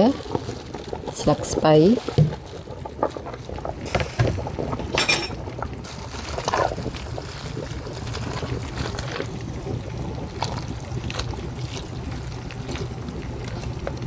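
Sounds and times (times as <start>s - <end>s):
soup bubbling in a pot: 0.0s - 14.0s.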